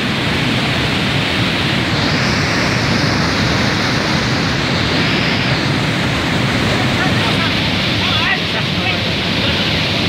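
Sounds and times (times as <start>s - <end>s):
floodwater rushing over rocks: 0.0s - 10.0s.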